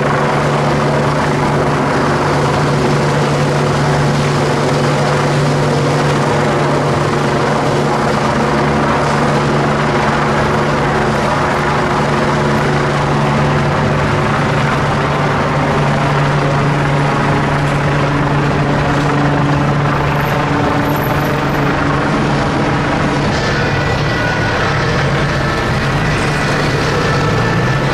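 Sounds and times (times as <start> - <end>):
helicopter rotor drone: 0.0 - 27.9.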